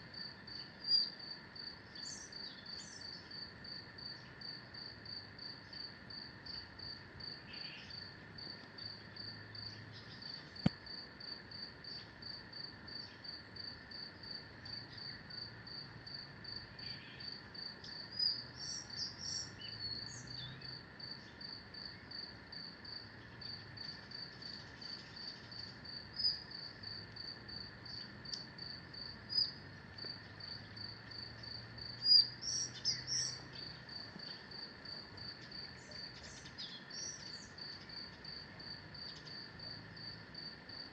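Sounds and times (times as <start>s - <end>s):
insect chirping in rapid pulses: 0.0s - 40.9s
insects droning: 0.0s - 40.9s.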